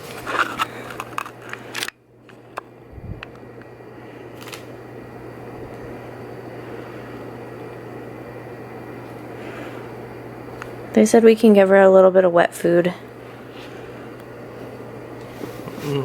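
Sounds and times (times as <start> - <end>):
steady low hum with hiss: 0.0 - 16.0.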